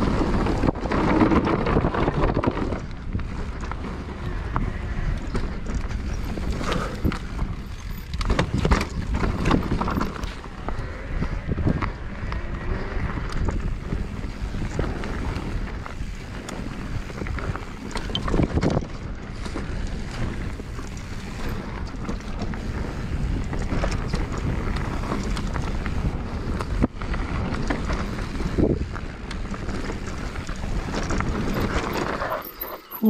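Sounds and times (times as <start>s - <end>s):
wind buffeting microphone: 0.0s - 32.4s.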